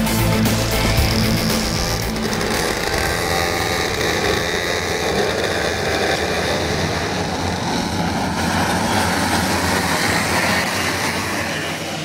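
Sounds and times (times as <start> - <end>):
racing kart engines buzzing: 0.0 - 12.0.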